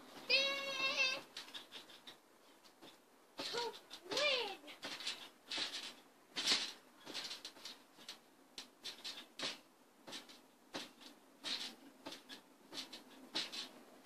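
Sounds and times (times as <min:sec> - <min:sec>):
trampoline springs creaking: 0:00.0 - 0:14.0.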